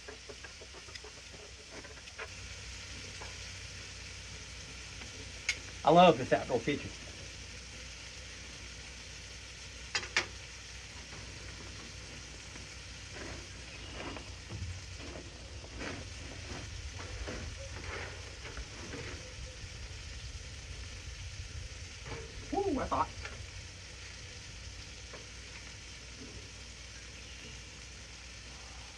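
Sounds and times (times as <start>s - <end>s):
steaks sizzling on a griddle: 0.0s - 28.9s.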